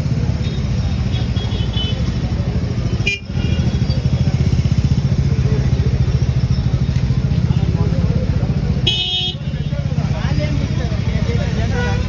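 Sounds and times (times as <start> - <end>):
motorcycle engine idling: 0.0 - 12.0
traffic noise: 0.0 - 12.0.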